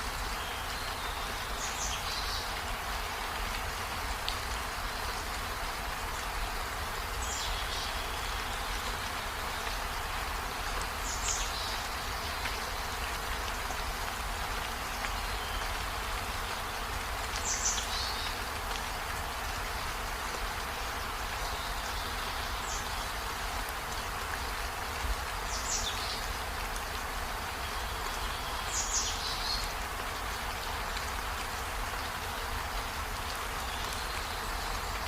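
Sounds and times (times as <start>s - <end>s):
rain on leaves and window: 0.0s - 35.0s.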